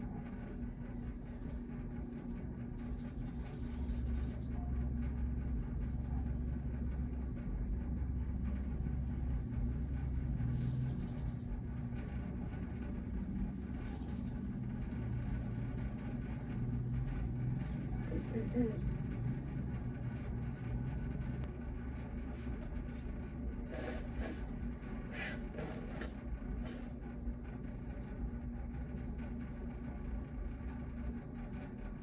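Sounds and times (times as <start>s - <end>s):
low rumble and hum: 0.0s - 32.0s.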